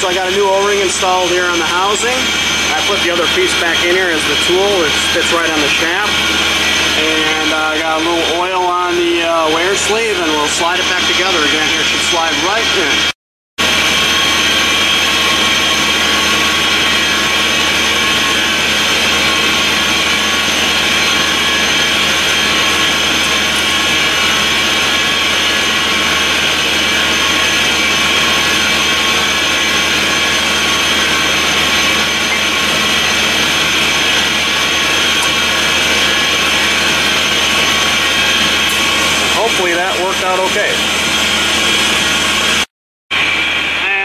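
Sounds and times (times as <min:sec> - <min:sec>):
air compressor running: 0:00.0 - 0:44.0.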